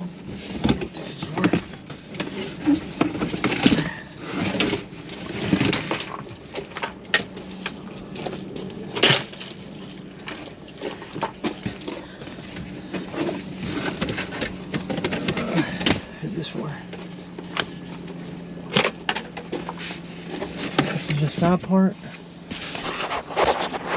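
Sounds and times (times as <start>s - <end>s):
objects clattering inside a car: 0.0s - 23.9s.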